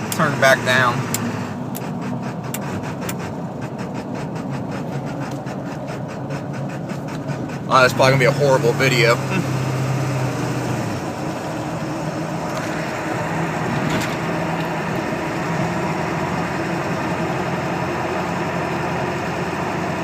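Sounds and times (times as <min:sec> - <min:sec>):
diesel truck engine running: 0:00.0 - 0:20.0
road noise: 0:00.0 - 0:20.0.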